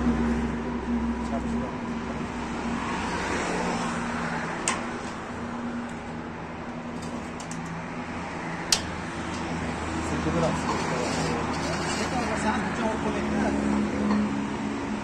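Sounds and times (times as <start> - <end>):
traffic-like rumble: 0.0 - 15.0.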